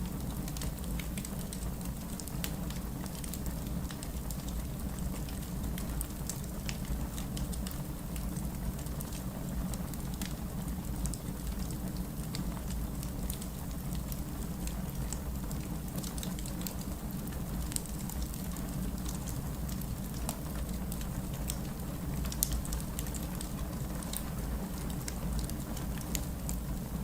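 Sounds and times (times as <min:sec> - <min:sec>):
wood fire crackling and popping: 0:00.1 - 0:27.0.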